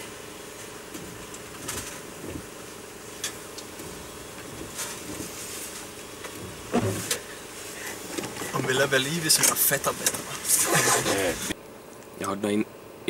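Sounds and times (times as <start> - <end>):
low car interior hum: 0.0 - 12.0.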